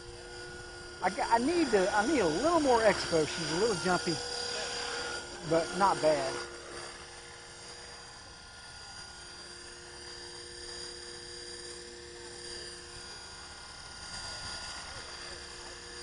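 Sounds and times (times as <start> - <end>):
model helicopter motor whine: 0.0 - 16.0.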